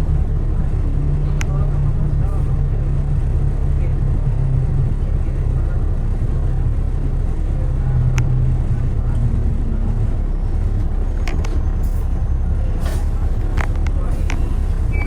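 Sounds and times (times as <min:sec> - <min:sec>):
road traffic rumble: 0:00.0 - 0:15.0
vehicle engine drone: 0:00.0 - 0:15.0.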